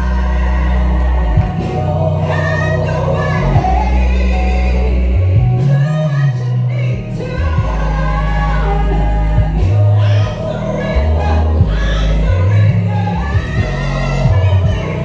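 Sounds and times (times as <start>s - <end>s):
deep held bass notes: 0.0s - 15.0s
woman singing into a microphone: 0.0s - 15.0s.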